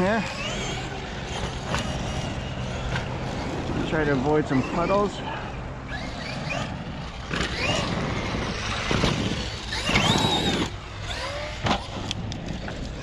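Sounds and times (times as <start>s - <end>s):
electric motor whining: 0.0s - 13.0s
tyres on damp dirt: 0.0s - 13.0s.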